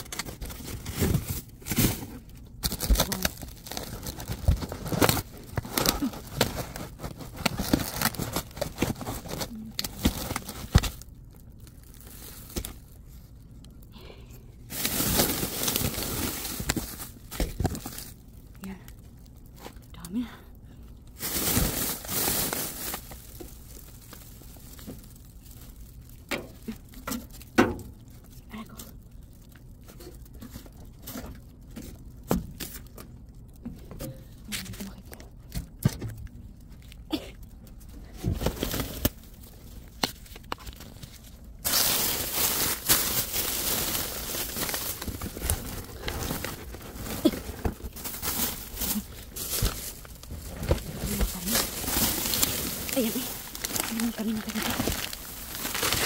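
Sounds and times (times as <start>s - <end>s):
plastic bags crinkling: 0.0s - 13.8s, 14.6s - 20.0s, 20.8s - 33.6s, 34.2s - 56.0s.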